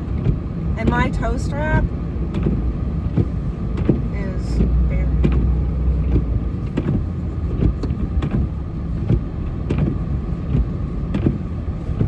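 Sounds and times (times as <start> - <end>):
truck engine rumbling: 0.0 - 12.0
sharp clicks and knocks: 2.3 - 12.0.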